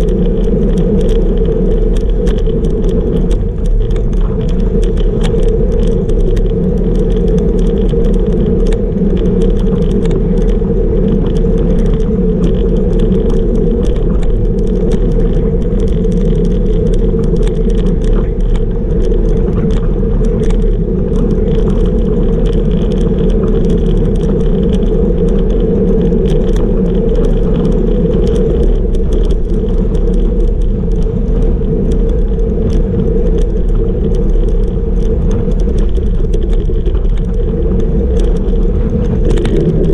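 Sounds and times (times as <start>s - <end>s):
small clicks and rattles: 0.0s - 39.9s
tyre and road noise: 0.0s - 39.9s
wind rushing over microphone: 0.0s - 39.9s.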